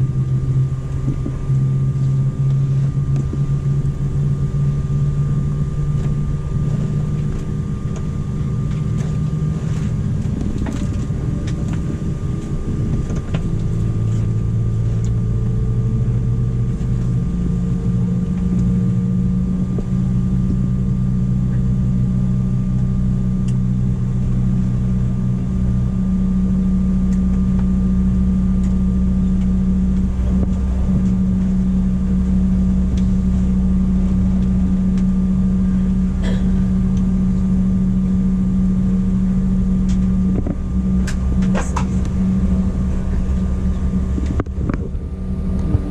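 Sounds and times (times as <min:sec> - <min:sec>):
jet cabin hum and rumble: 0:00.0 - 0:45.9.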